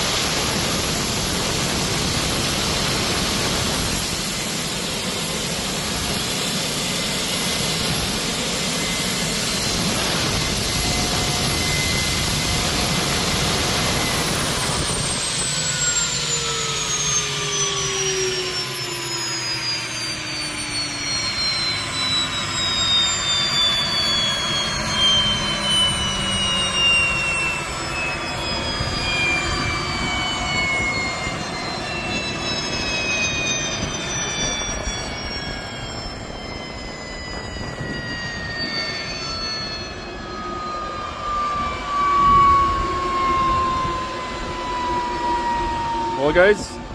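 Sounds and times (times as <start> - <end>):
gas turbine whine spooling down: 0.0 - 46.9.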